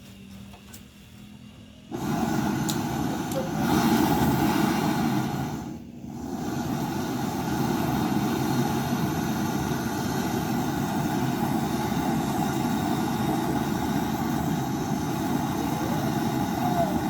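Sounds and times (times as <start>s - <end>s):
small machine motor droning: 0.0s - 17.0s.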